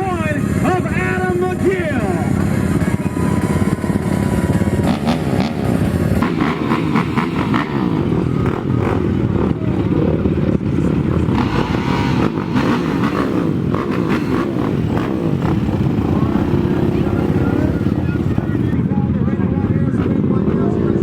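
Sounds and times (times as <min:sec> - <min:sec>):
racing atv engines revving: 0:00.0 - 0:21.0.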